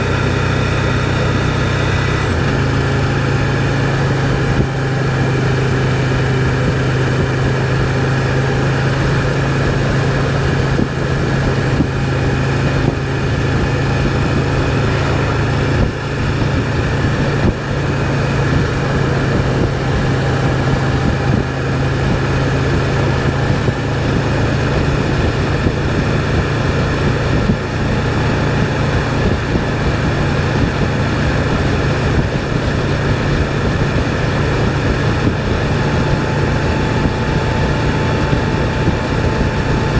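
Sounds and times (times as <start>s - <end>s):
motorcycle engine humming: 0.0s - 39.9s
wind and road noise: 0.0s - 39.9s.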